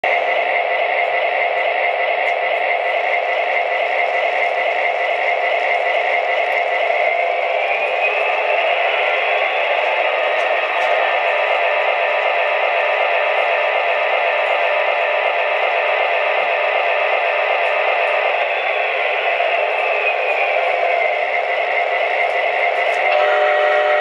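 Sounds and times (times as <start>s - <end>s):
model train diesel engine sound: 0.0s - 24.0s.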